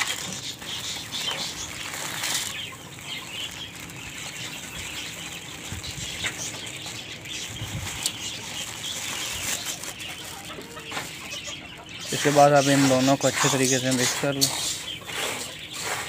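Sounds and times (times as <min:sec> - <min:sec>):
hand rustling through grain: 0:00.0 - 0:11.2, 0:12.1 - 0:16.0.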